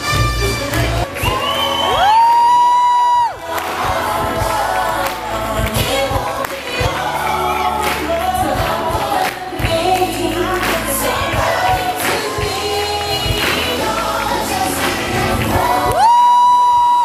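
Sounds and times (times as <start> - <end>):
group of voices singing: 0.0 - 16.8.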